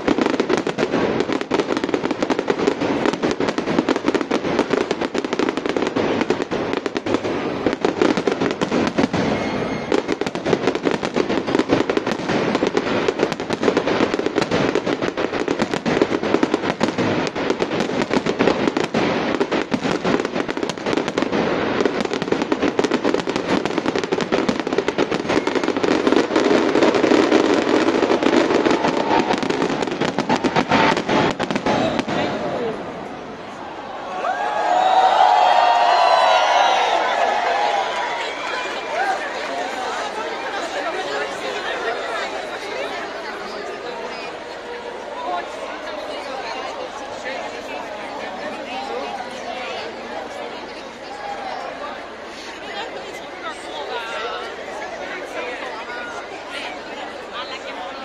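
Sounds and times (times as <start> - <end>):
fireworks bangs and crackling: 0.0 - 33.8, 34.5 - 57.9.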